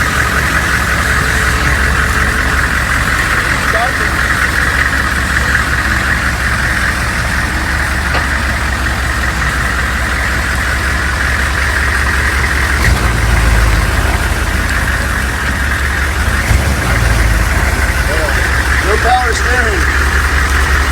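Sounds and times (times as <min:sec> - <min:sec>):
diesel engine idling: 0:00.0 - 0:20.9
engine hiss: 0:00.0 - 0:20.9.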